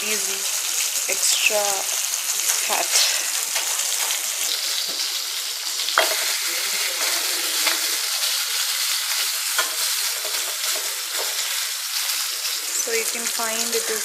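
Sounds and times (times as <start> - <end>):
fish sizzling in a frying pan: 0.0 - 14.0
spitting oil crackles: 0.0 - 14.0.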